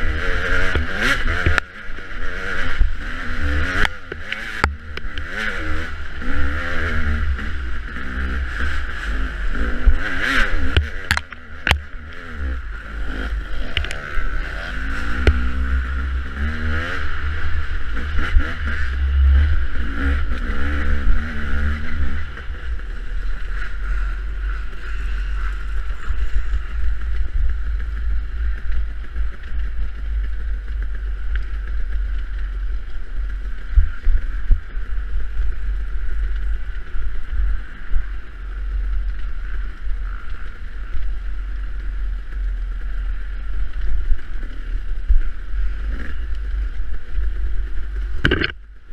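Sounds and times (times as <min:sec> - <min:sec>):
dirt bike engine revving: 0:00.0 - 0:48.6.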